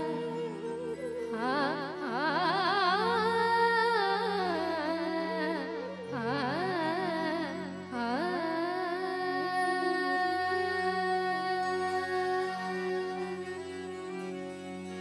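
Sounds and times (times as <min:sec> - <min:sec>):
woman singing devotional song: 0:00.0 - 0:14.5.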